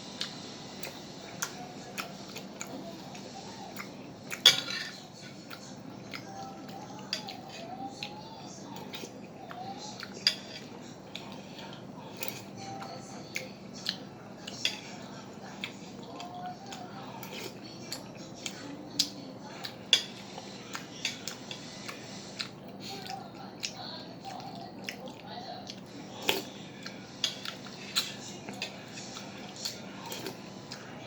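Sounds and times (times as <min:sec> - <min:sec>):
utensils clinking against a bowl: 0:03.7 - 0:08.1, 0:08.7 - 0:23.2, 0:24.2 - 0:30.8.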